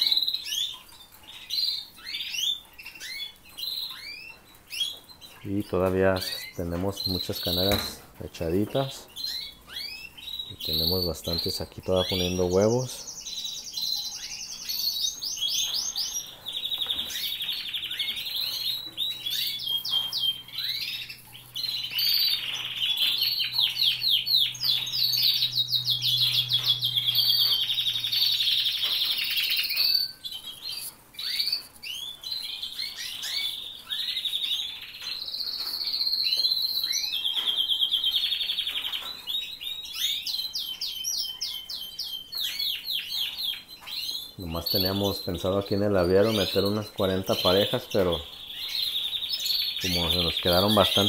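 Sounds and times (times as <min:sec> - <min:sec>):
canaries singing: 0:00.0 - 0:51.0.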